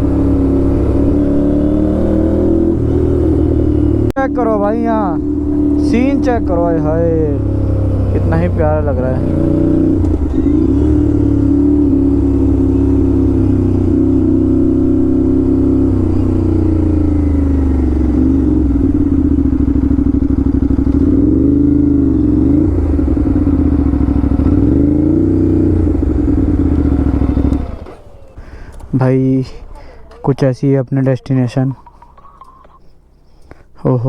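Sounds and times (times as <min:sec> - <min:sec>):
motorcycle engine running: 0:00.0 - 0:30.5.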